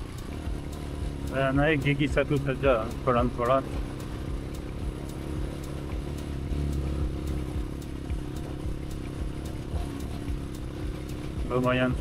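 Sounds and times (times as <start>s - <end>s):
three-wheeler engine running slowly: 0.0s - 12.0s.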